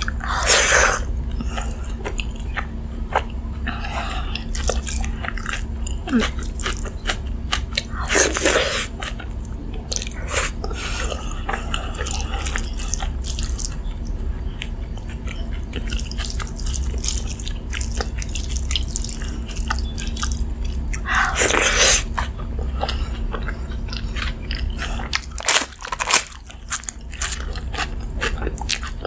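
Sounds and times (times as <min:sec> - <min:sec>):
crunching and chewing food: 0:00.0 - 0:29.0
steady low hum: 0:00.0 - 0:29.0.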